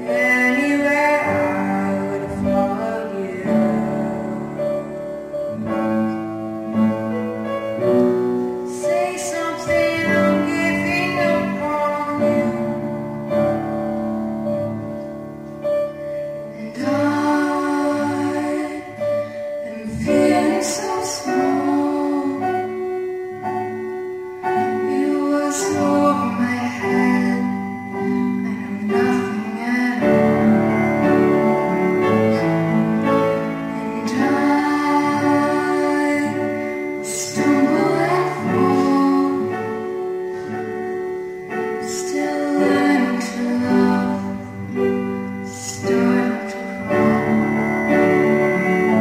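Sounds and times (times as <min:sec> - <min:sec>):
young voices singing in harmony: 0:00.0 - 0:14.9, 0:15.8 - 0:49.0.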